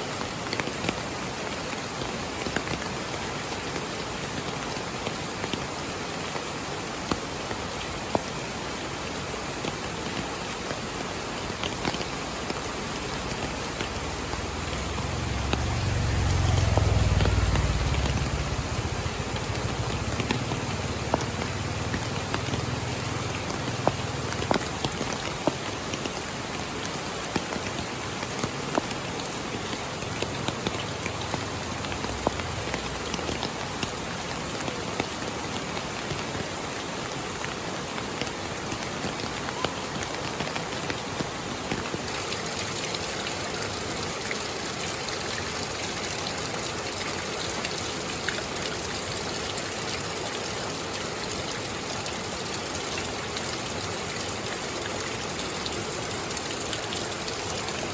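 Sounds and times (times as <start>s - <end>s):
steady rain with drop hits: 0.0s - 57.9s.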